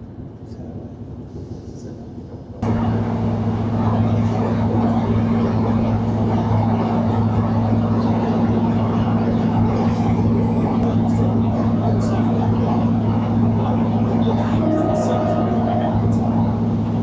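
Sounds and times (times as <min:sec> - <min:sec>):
train diesel engine droning: 0:00.1 - 0:17.0
wheel and track rumble: 0:00.4 - 0:17.0.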